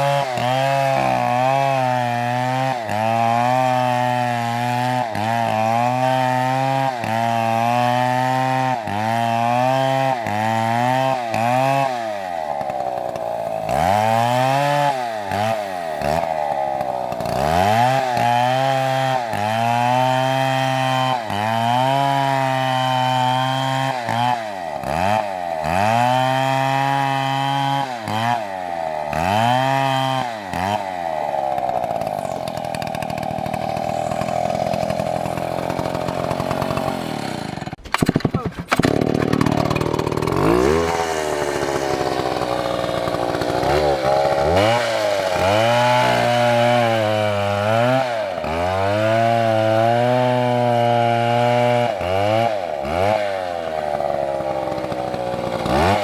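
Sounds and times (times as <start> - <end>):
chainsaw running hard: 0.0 - 56.0.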